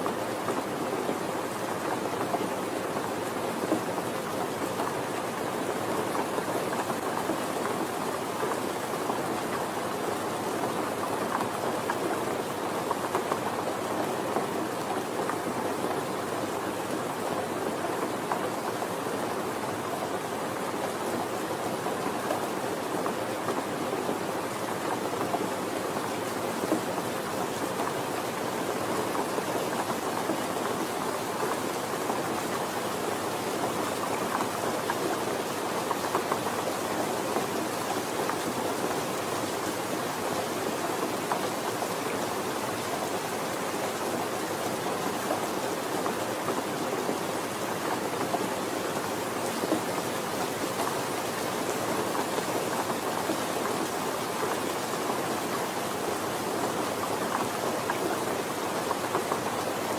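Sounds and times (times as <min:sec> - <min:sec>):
soft rain patter: 0:00.0 - 0:59.9.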